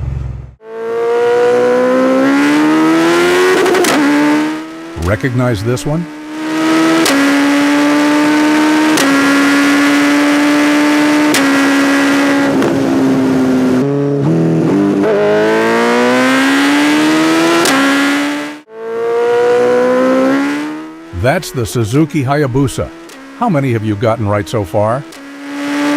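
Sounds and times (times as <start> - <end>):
motorcycle engine accelerating: 0.0 - 25.9.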